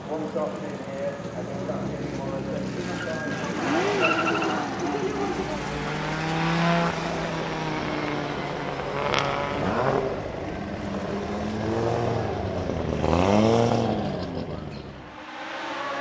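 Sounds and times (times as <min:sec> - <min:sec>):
car engine revving: 0:01.8 - 0:16.0.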